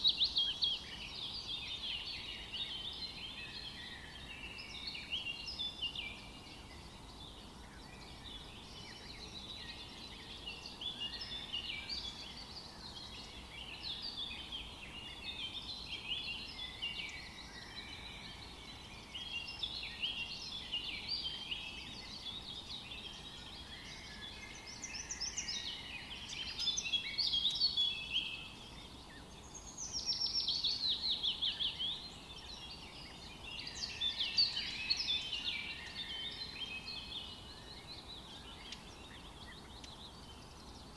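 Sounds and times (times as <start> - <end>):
birds chirping and trilling: 0.0 - 40.9
faint steady hiss: 0.0 - 40.9.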